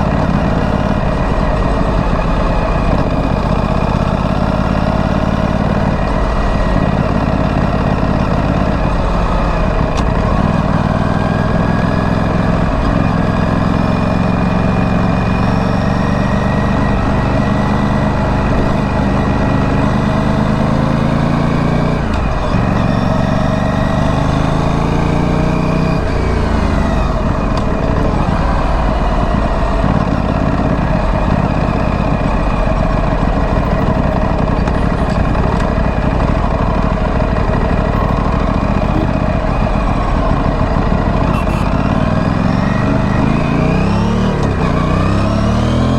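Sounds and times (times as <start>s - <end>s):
motorcycle engine exhaust: 0.0s - 45.9s.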